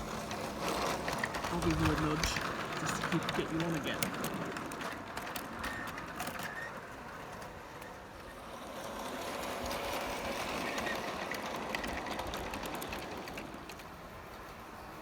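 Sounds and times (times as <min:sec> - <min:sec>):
toy train motor whirring: 0:00.0 - 0:15.0.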